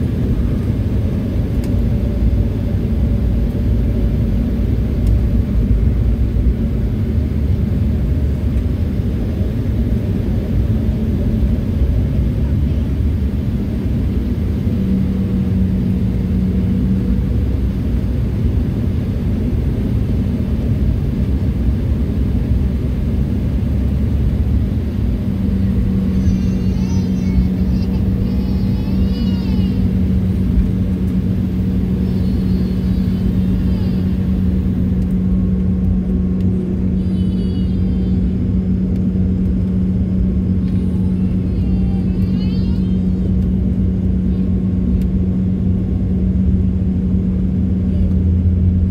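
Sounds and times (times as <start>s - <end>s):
jet engines and rolling gear rumble: 0.0s - 48.9s
steady low hum: 0.0s - 48.9s.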